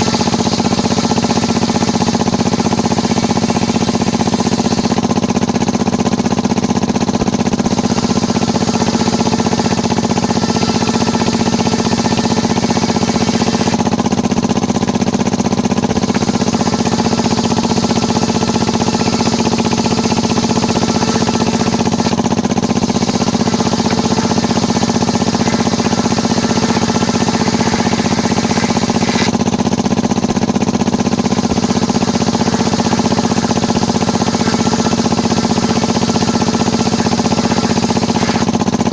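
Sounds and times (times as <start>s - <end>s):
saw cutting wood hiss: 0.0s - 5.1s, 7.8s - 14.0s, 15.8s - 29.5s, 31.4s - 38.5s
sawmill engine running: 0.0s - 38.9s.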